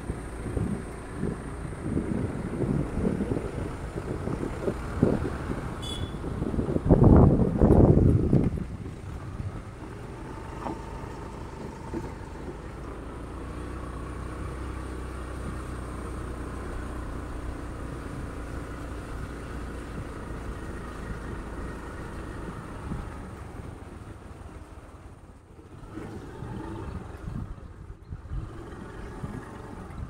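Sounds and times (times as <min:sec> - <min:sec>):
vehicle driving on gravel: 0:00.0 - 0:30.0.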